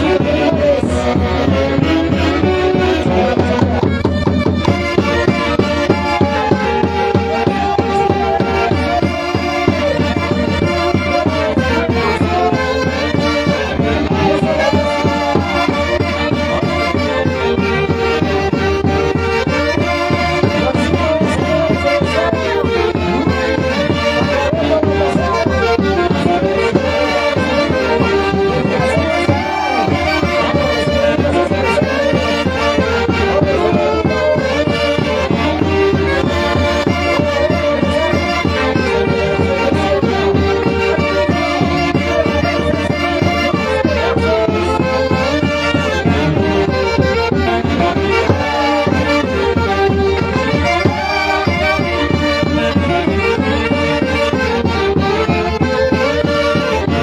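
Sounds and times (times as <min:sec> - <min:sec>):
steady drum beat: 0:00.0 - 0:23.5, 0:25.3 - 0:42.8, 0:43.7 - 0:55.2
wind and string melody: 0:00.0 - 0:57.0.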